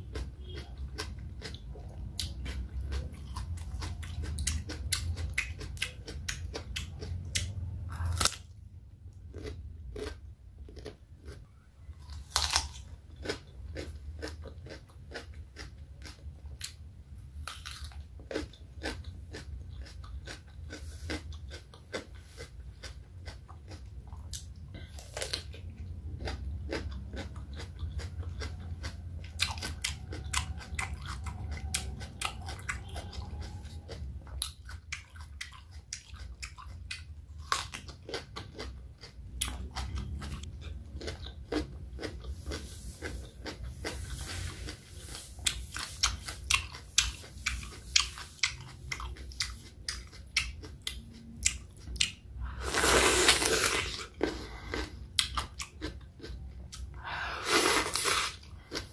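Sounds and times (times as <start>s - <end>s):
person chewing cucumber: 0.0s - 58.9s.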